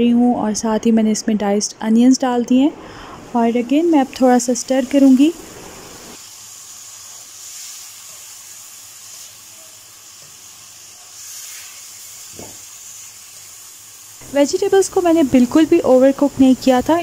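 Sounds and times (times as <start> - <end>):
food sizzling in oil: 3.2 - 17.0.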